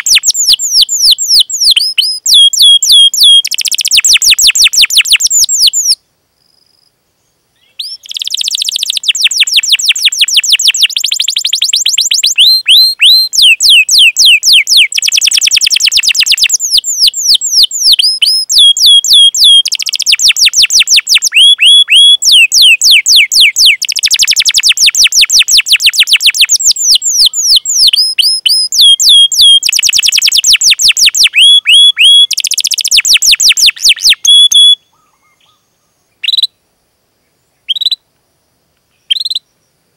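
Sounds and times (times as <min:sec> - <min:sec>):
canary singing trills: 0:00.0 - 0:06.0, 0:07.6 - 0:36.6, 0:37.6 - 0:38.0, 0:39.0 - 0:39.6.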